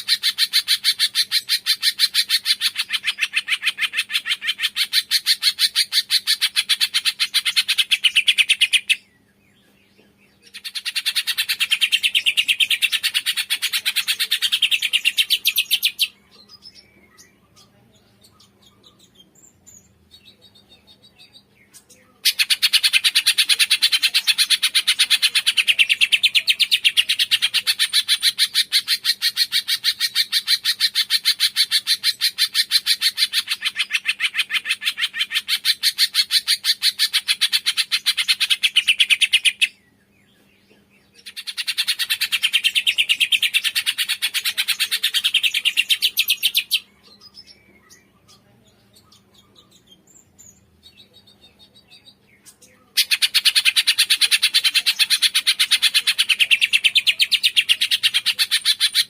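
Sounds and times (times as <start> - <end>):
songbird chattering trill: 0.0 - 40.1, 40.8 - 59.0.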